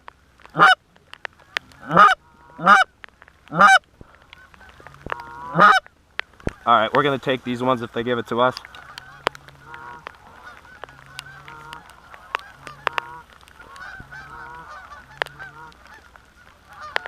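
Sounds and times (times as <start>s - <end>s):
geese honking: 0.5s - 2.9s, 3.5s - 17.0s.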